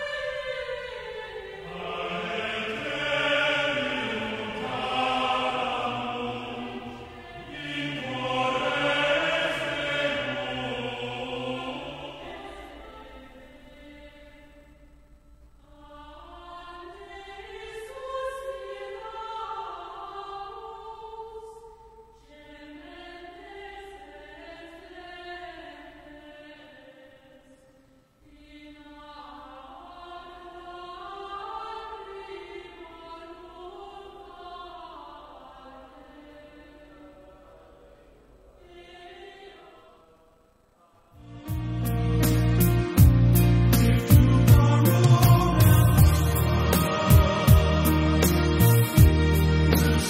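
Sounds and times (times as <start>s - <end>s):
congregation singing a hymn: 0.0s - 14.7s, 15.7s - 27.5s, 28.3s - 41.7s, 42.4s - 50.0s.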